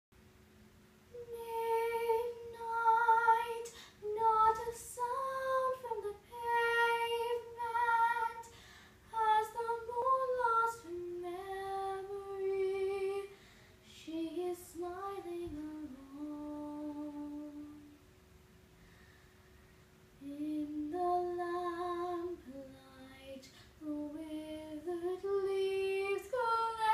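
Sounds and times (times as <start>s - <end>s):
woman singing: 1.2s - 17.9s, 20.2s - 26.9s.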